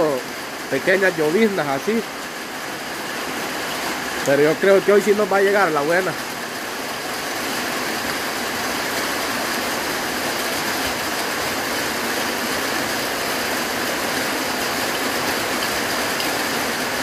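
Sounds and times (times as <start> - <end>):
steady rain: 0.0 - 17.0
water streaming off roof: 0.0 - 17.0.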